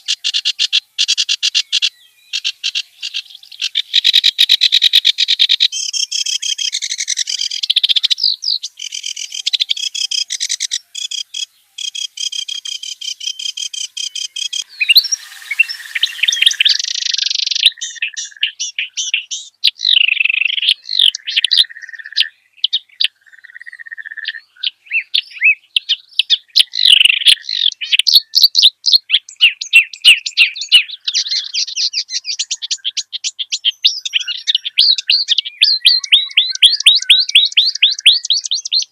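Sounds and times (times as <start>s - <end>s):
reed warbler singing: 0.0s - 38.9s.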